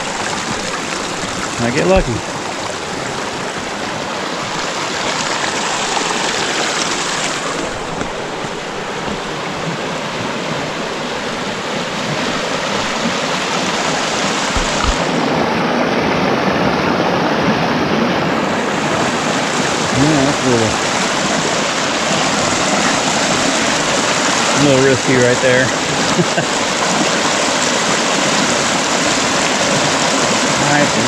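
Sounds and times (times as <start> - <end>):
river rushing over boulders: 0.0 - 31.0.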